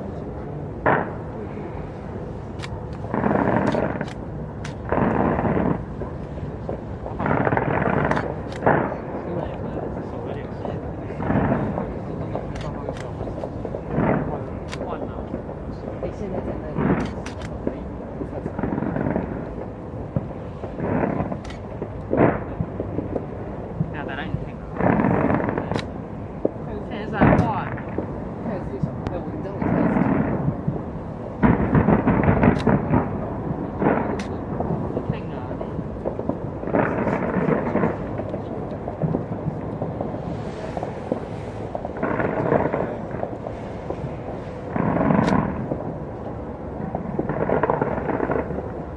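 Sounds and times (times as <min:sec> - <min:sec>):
fireworks booming: 0:00.0 - 0:48.9
fireworks popping and crackling: 0:00.0 - 0:48.9.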